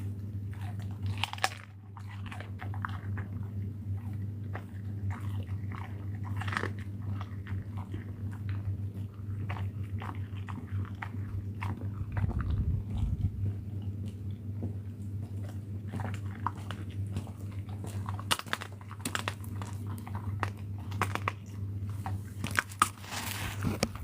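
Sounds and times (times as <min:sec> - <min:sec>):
animal chewing and crunching food: 0:00.0 - 0:24.0
steady low hum: 0:00.0 - 0:24.0.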